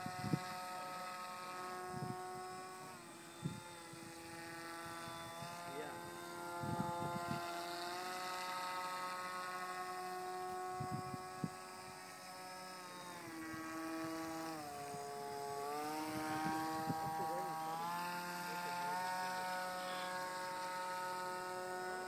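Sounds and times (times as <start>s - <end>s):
model aircraft motor buzzing: 0.0s - 22.0s.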